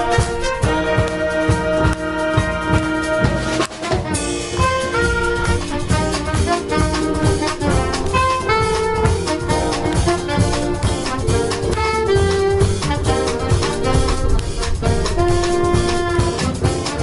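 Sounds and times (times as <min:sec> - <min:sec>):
drum kit steady beat: 0:00.0 - 0:17.0
saxophones and brass chords: 0:00.0 - 0:17.0.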